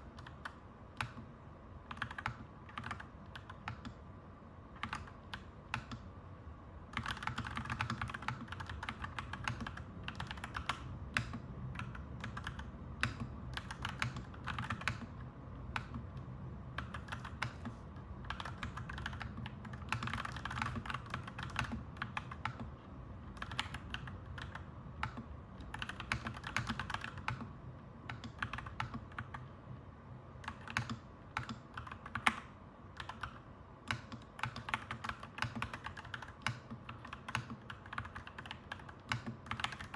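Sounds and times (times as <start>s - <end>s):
clacky mechanical keyboard typing: 0.0s - 4.0s, 4.8s - 6.1s, 6.9s - 16.2s, 16.8s - 29.5s, 30.4s - 39.9s.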